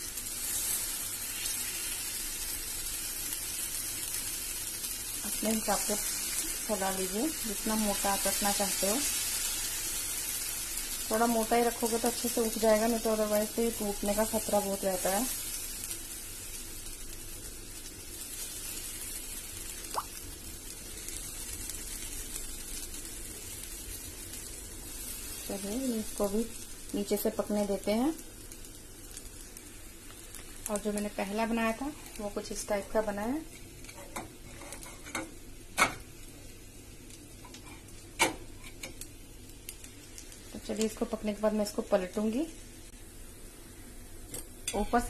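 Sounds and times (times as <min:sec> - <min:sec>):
batter sizzling in a pan: 0:00.0 - 0:45.0
frying hiss: 0:00.0 - 0:45.0.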